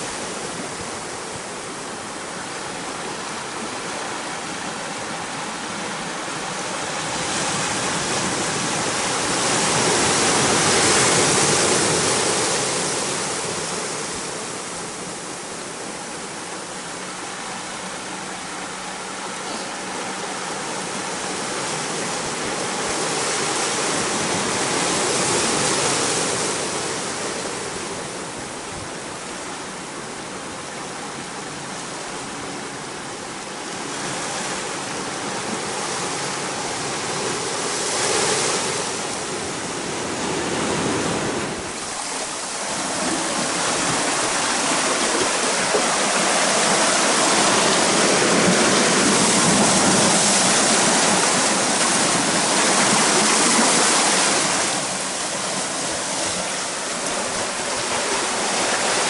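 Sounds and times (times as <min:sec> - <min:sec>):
ocean surf over rocks: 0:00.0 - 0:59.0.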